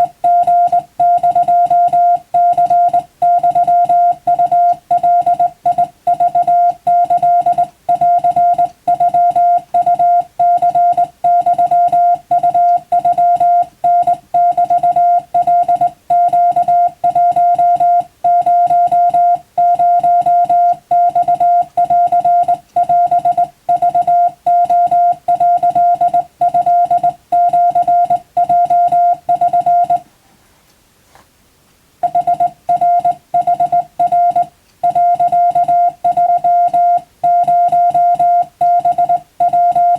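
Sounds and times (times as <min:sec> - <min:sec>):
morse code beeps: 0:00.0 - 0:30.0, 0:32.0 - 0:39.9.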